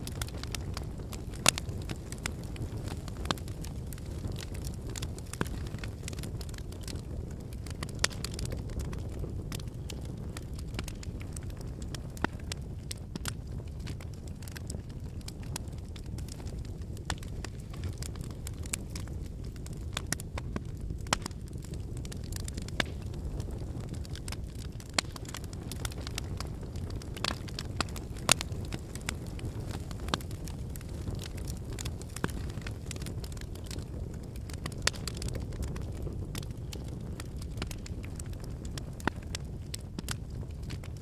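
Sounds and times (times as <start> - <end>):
burning logs crackling and popping: 0.0 - 41.0
rumble of flames: 0.0 - 41.0.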